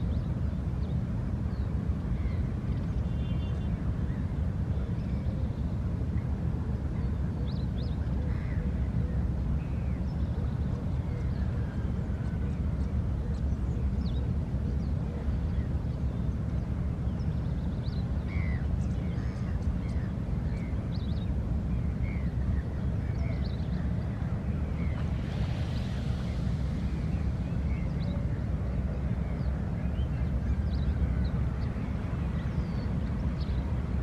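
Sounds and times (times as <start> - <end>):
bird calls and chirps: 0.0 - 6.3, 6.9 - 34.0
steady low rumble: 0.0 - 34.0.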